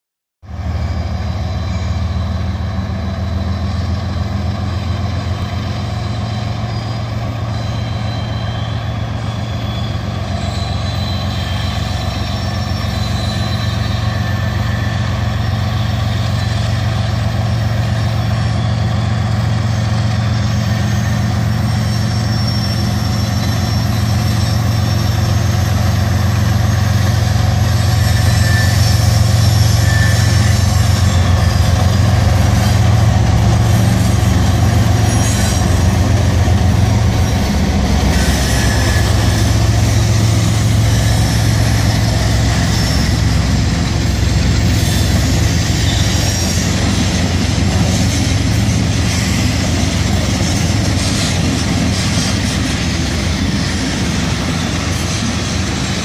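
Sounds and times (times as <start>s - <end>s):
locomotive engine drone: 0.4s - 56.0s.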